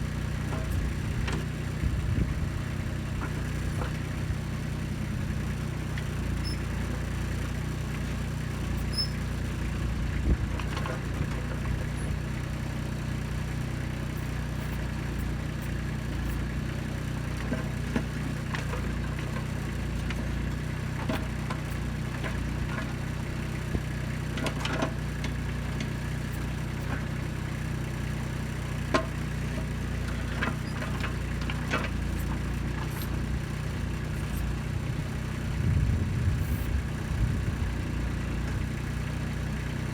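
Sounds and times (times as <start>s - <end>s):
backhoe digging: 0.0s - 39.9s
tractor diesel engine running: 0.0s - 39.9s.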